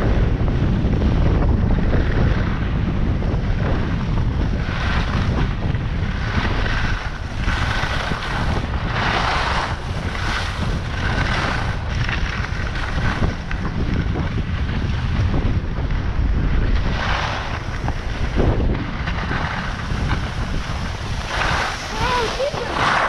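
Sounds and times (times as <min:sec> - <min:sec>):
wind rumbling on microphone: 0:00.0 - 0:23.0
skis scraping on packed snow: 0:00.9 - 0:23.0.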